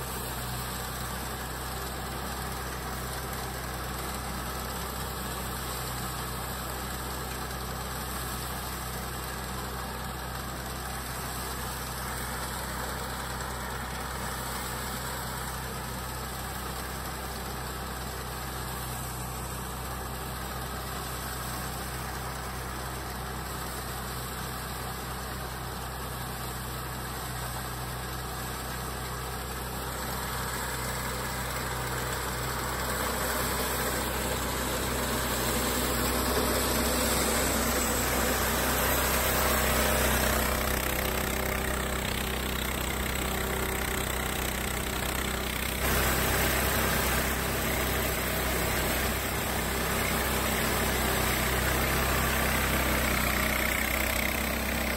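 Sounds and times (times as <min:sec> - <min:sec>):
harvester running: 0:00.0 - 0:54.9.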